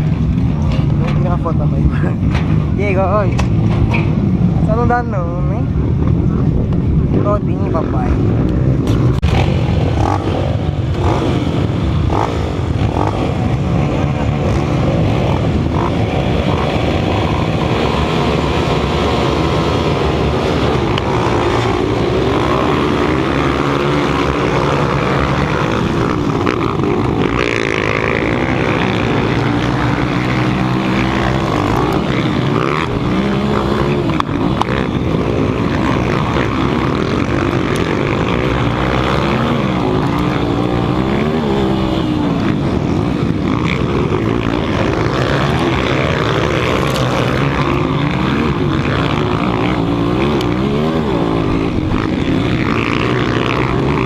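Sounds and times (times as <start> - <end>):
motocross motorcycles revving: 0.0 - 54.0.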